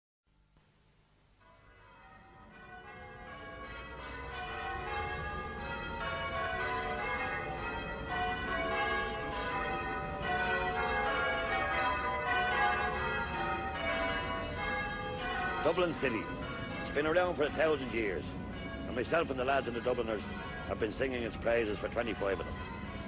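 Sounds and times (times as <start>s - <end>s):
church bells ringing: 1.4s - 23.0s.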